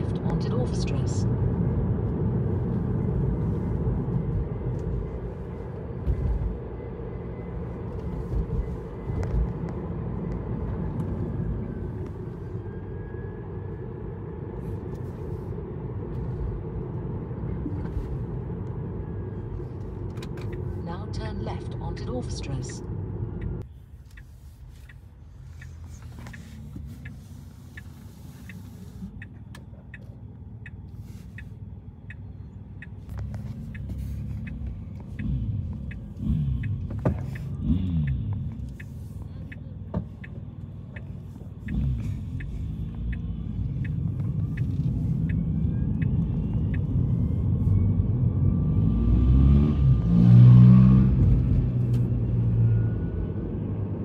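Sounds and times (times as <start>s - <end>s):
turn signal ticking: 0.0s - 49.2s
car engine and road rumble: 0.0s - 54.0s.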